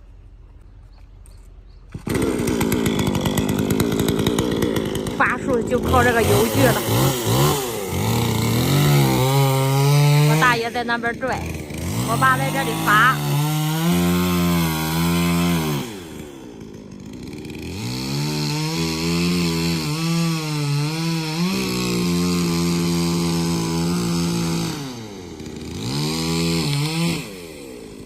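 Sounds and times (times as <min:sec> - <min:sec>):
chainsaw cutting tree trunk: 0:01.4 - 0:28.0.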